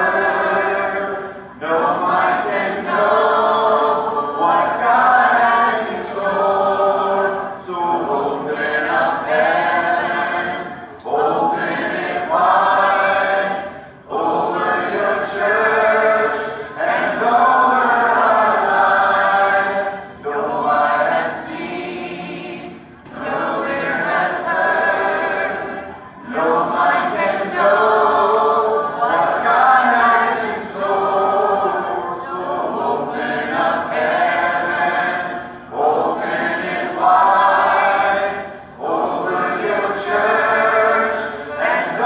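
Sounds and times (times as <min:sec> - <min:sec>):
a cappella choir singing: 0:00.0 - 0:42.0.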